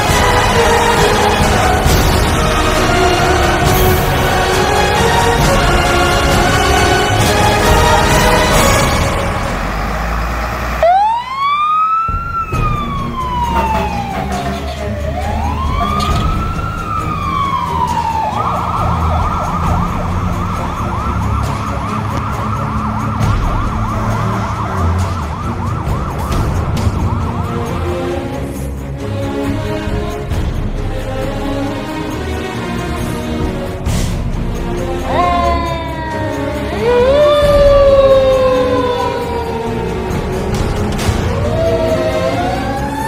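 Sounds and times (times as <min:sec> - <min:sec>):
fire engine siren: 0:00.0 - 0:30.5, 0:31.2 - 0:43.0.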